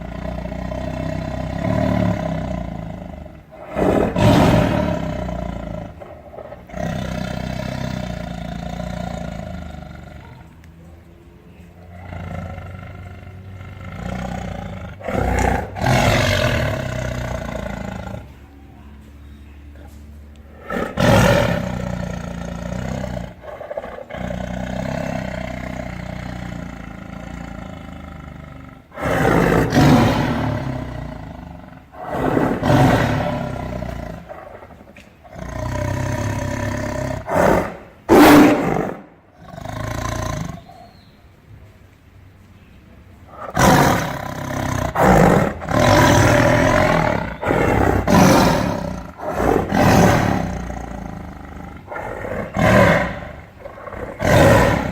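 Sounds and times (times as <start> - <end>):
tiger growling and roaring: 0.0 - 41.3, 43.0 - 54.9.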